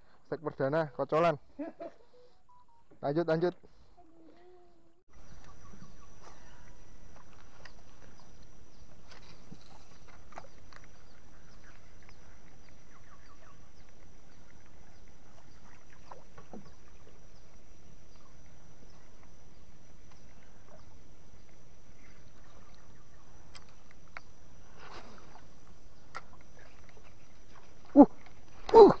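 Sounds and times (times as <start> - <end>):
faint water splashes: 4.0 - 29.0
boat engine low rumble: 4.4 - 28.7.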